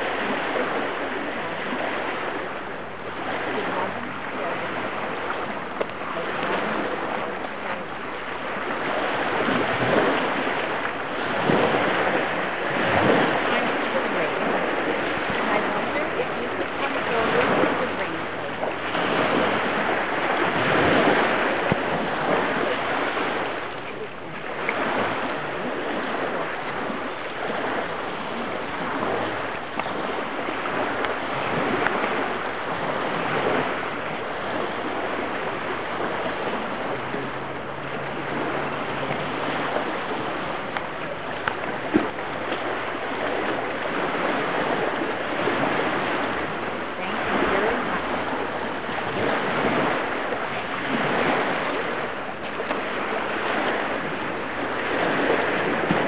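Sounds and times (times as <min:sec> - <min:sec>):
water washing on gravel shore: 0:00.0 - 0:56.0
wind on microphone: 0:00.0 - 0:56.0.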